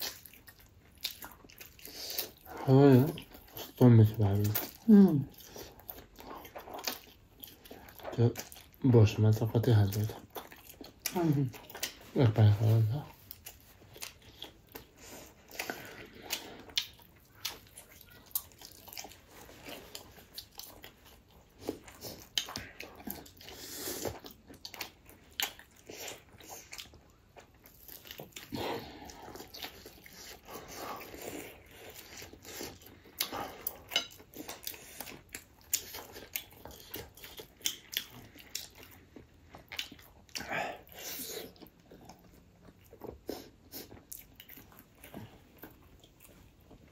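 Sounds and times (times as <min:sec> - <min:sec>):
food chewing and crunching: 0:00.0 - 0:46.9.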